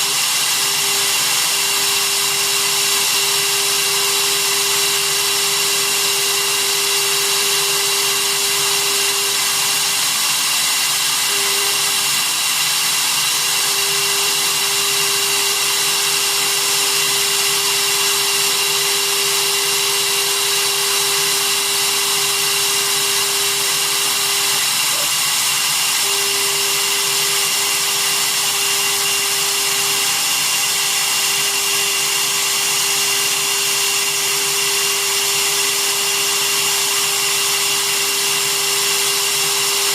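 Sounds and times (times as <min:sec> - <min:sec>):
spindle motor high whine: 0:00.0 - 0:39.9.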